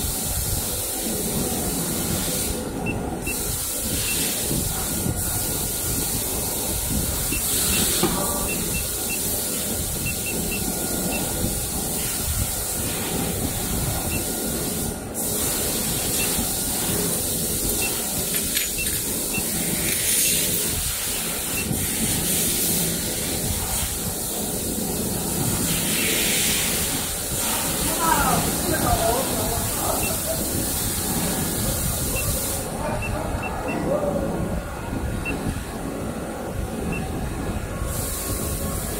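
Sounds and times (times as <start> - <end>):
machinery hiss and rumble: 0.0 - 38.9.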